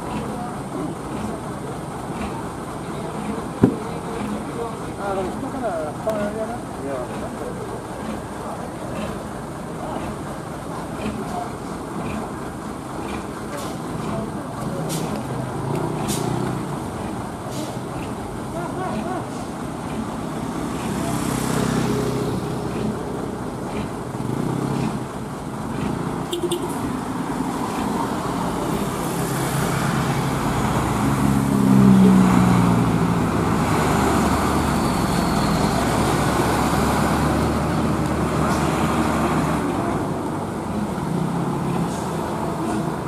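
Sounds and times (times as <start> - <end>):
car engines passing: 0.0 - 43.0
tyres on the road: 0.0 - 43.0.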